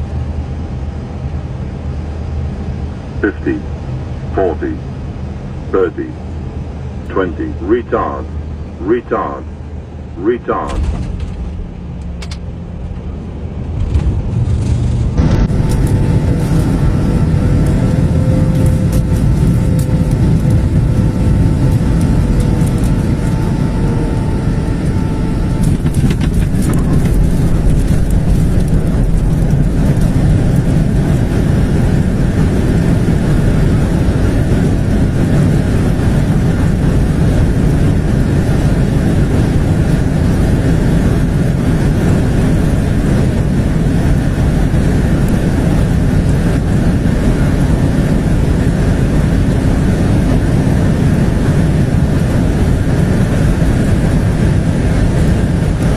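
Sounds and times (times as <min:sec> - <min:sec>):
airliner rumbling on runway: 0:00.0 - 0:55.9.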